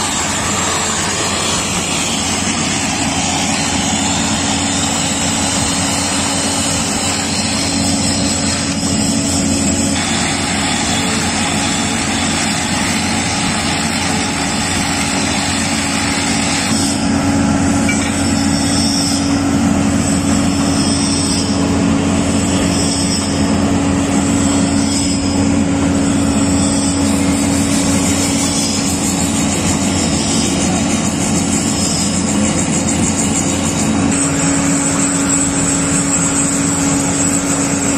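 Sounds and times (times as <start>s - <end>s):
motor humming: 0.0s - 37.9s.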